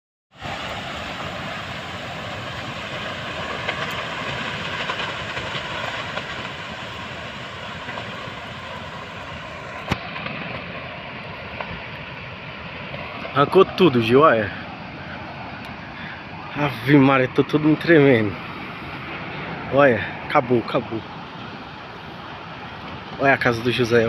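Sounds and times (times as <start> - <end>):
tornado wind blowing hard: 0.3 - 24.0.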